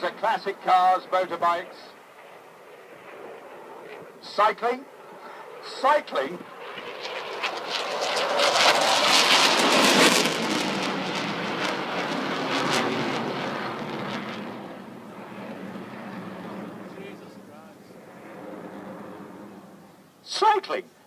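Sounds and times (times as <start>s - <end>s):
jet flying past: 0.0s - 20.4s.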